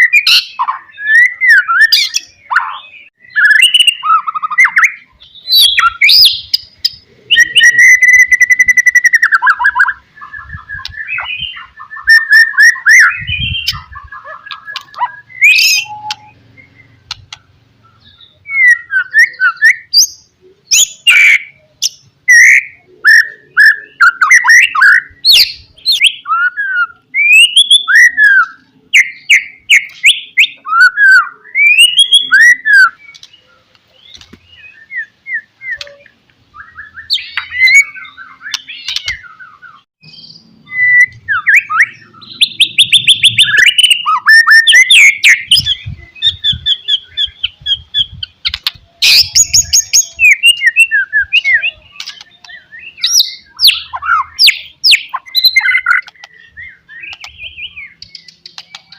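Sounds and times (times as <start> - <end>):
bird singing whistled song: 0.0 - 17.2, 17.8 - 58.9.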